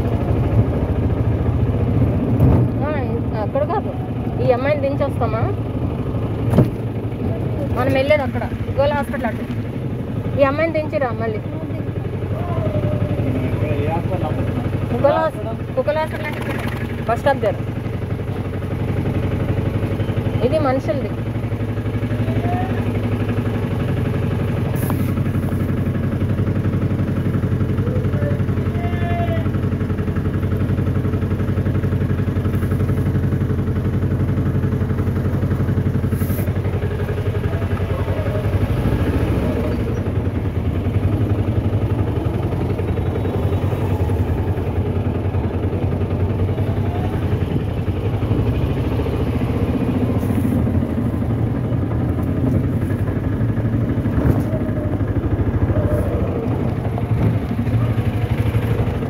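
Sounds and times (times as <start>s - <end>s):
faint street noise: 0.0s - 59.0s
small engine humming: 0.0s - 59.0s.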